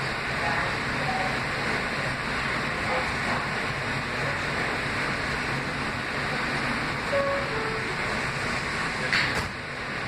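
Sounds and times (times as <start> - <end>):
subway car wheels rumbling: 0.0 - 10.0.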